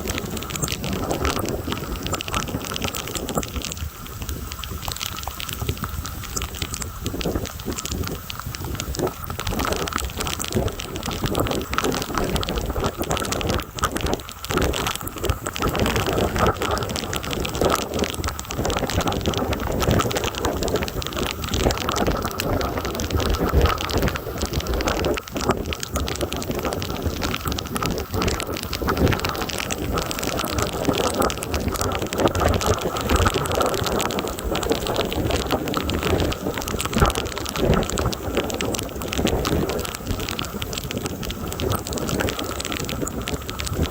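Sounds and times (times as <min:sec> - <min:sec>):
gusty wind rumbling: 0:00.0 - 0:43.9
heavy rain pouring: 0:00.0 - 0:43.9.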